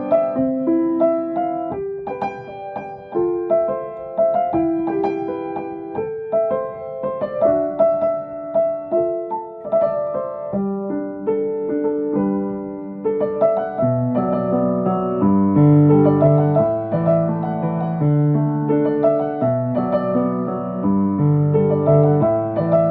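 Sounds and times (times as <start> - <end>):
gentle piano melody: 0.0 - 22.9.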